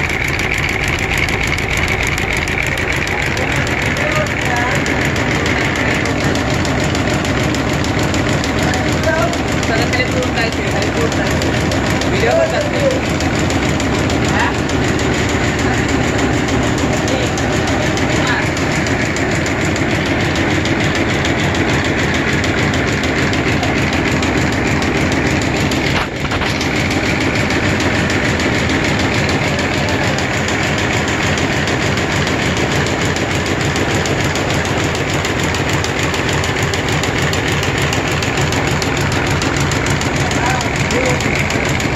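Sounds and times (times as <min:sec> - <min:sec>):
needle loom clattering: 0:00.0 - 0:41.9.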